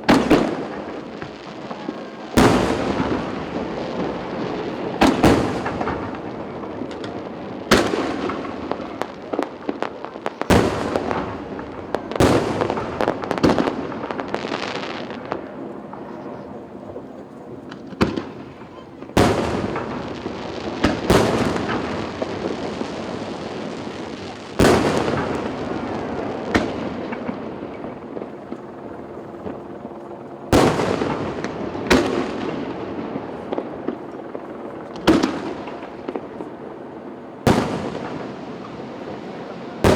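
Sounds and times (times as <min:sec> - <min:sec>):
firework shells booming: 0:00.0 - 0:29.7, 0:30.5 - 0:36.8, 0:37.4 - 0:39.9.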